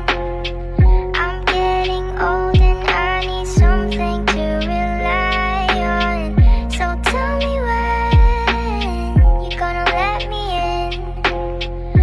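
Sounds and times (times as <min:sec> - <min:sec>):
deep falling bass hit: 0:00.0 - 0:10.2, 0:10.9 - 0:12.0
background music with chords: 0:00.0 - 0:12.0.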